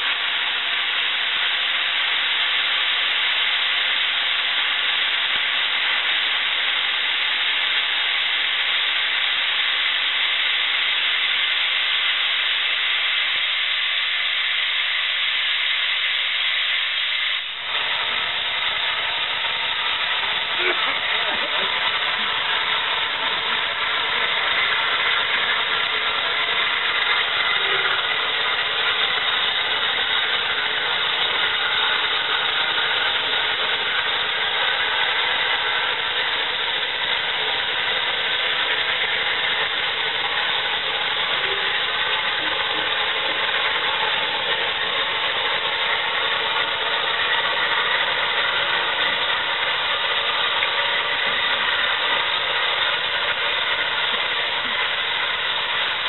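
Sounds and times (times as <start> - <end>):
steam hissing from locomotive: 0.0 - 56.0.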